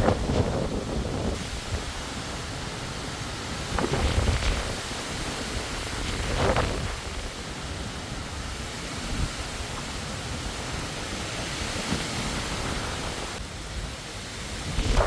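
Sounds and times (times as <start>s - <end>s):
strong wind blowing: 0.0s - 15.0s
wind buffeting microphone: 0.0s - 15.0s.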